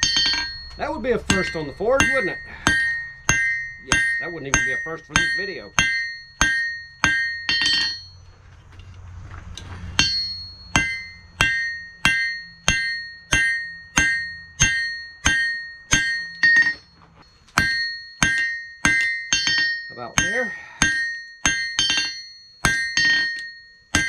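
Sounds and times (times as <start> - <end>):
hammer striking steel on anvil: 0.0 - 8.3, 9.6 - 24.0.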